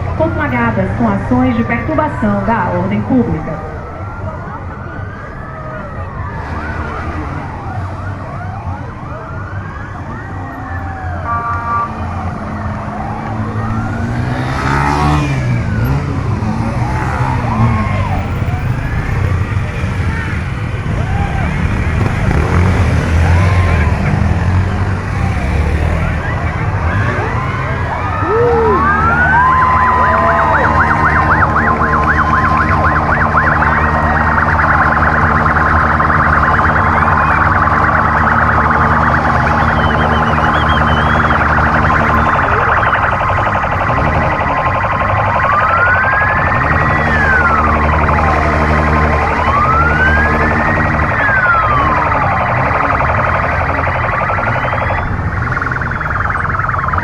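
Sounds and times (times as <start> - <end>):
engine drone: 0.0 - 57.0
police sirens: 0.0 - 57.0.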